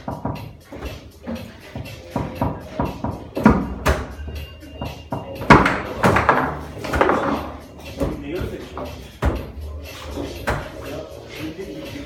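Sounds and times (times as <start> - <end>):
foosball knocks and clacks: 0.0 - 10.9
background music: 0.0 - 12.0.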